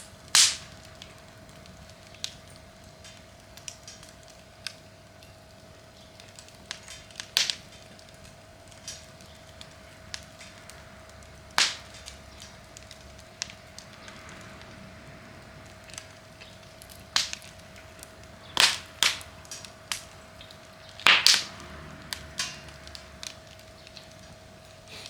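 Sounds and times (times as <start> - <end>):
fire popping: 0.0 - 25.0
wood fire crackling: 0.0 - 25.0.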